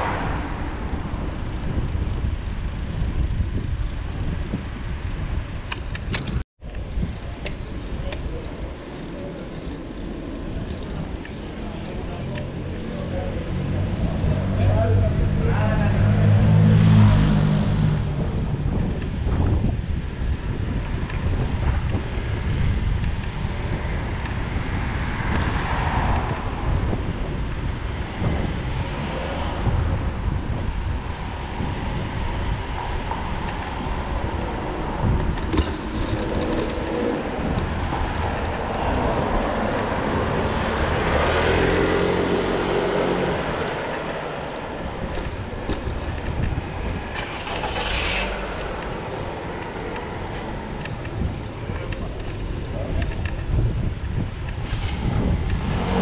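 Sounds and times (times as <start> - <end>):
wind on microphone: 0.0 - 8.6, 10.1 - 56.0
road traffic passing: 0.0 - 56.0.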